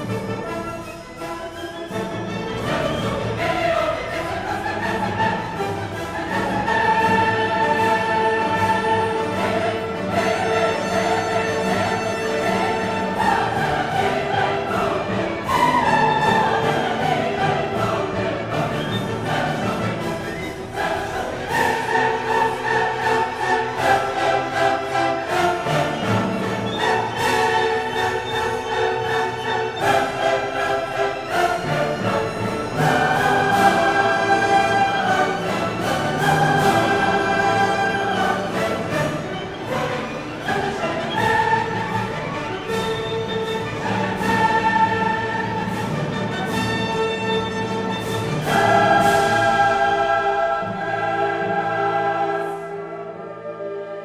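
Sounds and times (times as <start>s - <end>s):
choir singing held notes: 0.0s - 54.0s
orchestral music: 0.0s - 54.0s.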